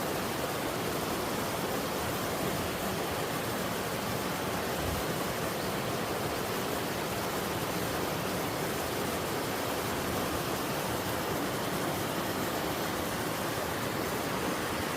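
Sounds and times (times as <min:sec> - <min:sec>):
water rushing over rock: 0:00.0 - 0:14.9.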